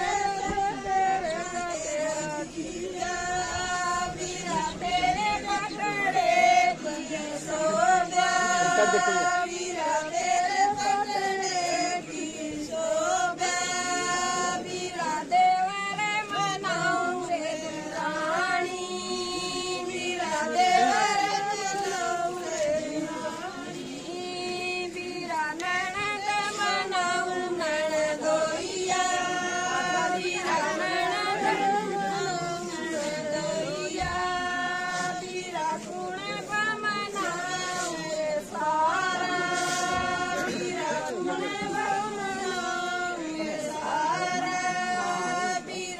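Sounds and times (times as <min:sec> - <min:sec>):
women singing together: 0:00.0 - 0:45.9.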